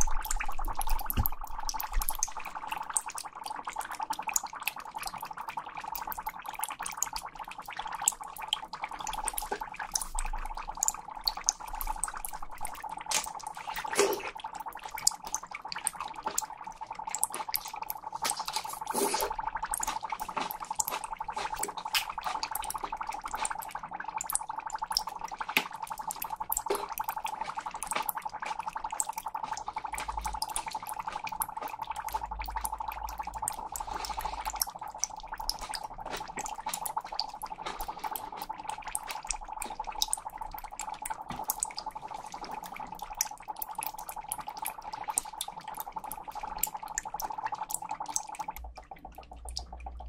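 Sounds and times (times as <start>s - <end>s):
dry ice crackles and ticks: 0.0s - 50.0s.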